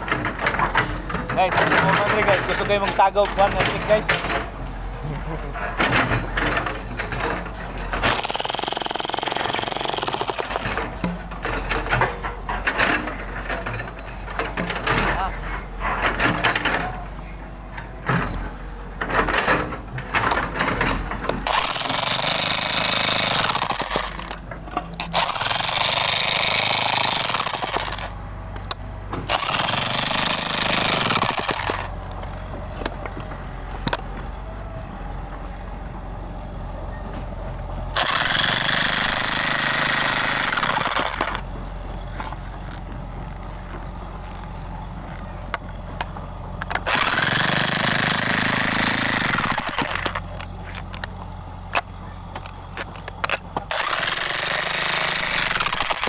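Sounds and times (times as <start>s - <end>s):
jackhammer breaking ground: 0.0s - 17.1s, 18.0s - 34.2s, 37.6s - 56.0s.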